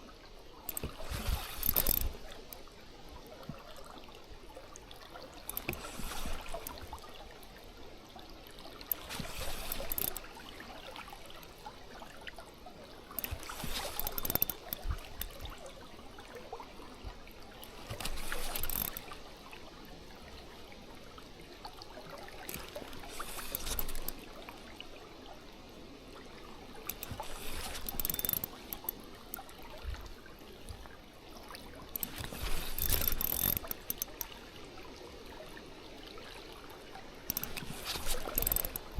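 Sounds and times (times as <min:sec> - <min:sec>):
shallow river water running: 0:00.0 - 0:38.9.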